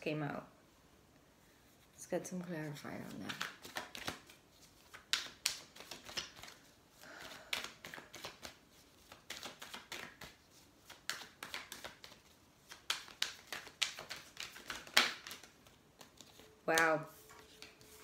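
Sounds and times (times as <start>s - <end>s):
cards being shuffled: 2.6s - 18.0s.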